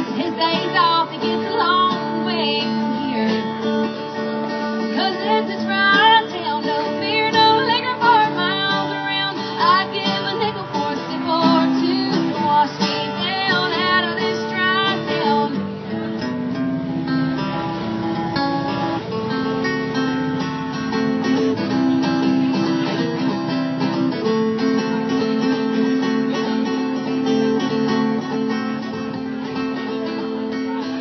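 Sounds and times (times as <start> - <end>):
acoustic guitar strumming: 0.0 - 31.0
sliding guitar melody: 0.0 - 31.0.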